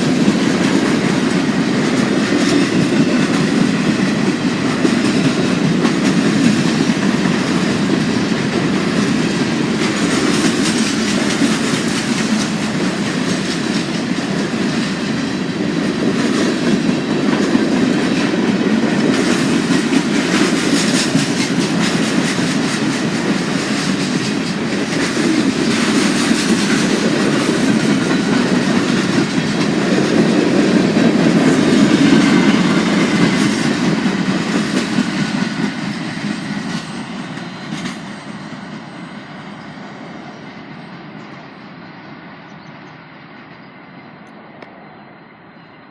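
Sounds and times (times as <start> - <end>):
wheels clickety-clack over rail joints: 0.0 - 43.0
freight train cars rolling past: 0.0 - 45.9.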